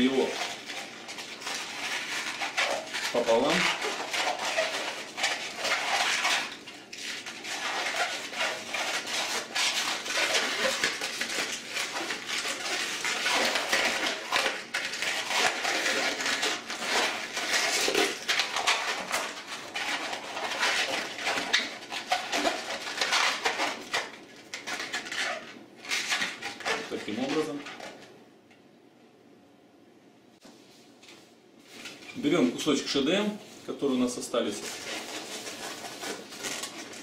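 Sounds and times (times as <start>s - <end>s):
balloon squeaking and rubbing: 0.0s - 27.9s, 34.6s - 37.0s.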